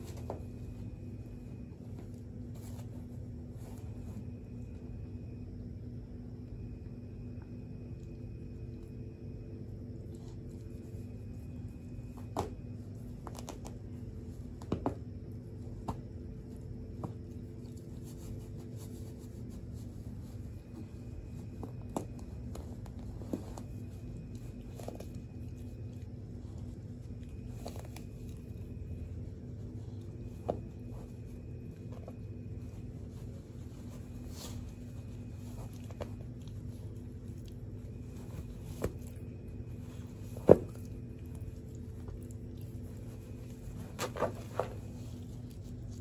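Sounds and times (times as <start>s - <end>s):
soft scuffing on carpet: 0.0s - 5.4s, 9.9s - 46.0s
steady low hum: 0.0s - 46.0s.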